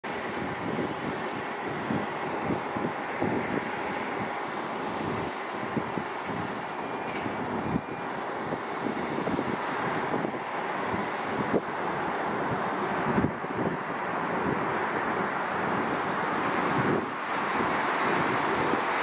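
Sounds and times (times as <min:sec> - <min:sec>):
jet engine rushing: 0:00.2 - 0:19.0.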